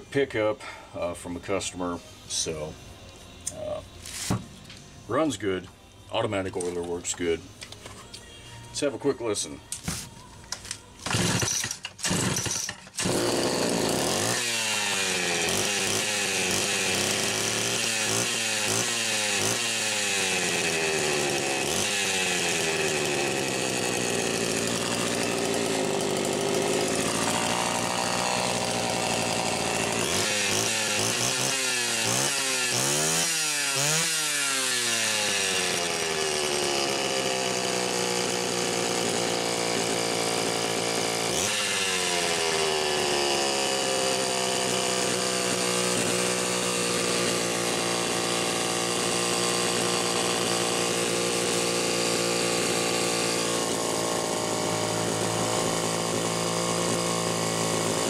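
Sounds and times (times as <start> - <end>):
chainsaw pull cord: 10.5 - 58.0
chainsaw engine idling and revving: 11.0 - 58.0.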